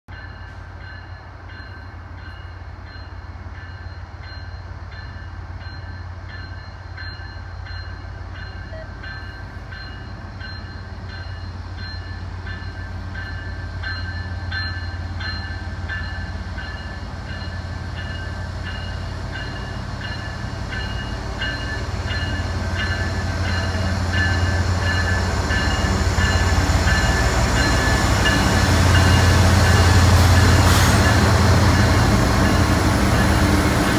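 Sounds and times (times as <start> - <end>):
diesel locomotive engines rumbling: 0.1 - 33.9.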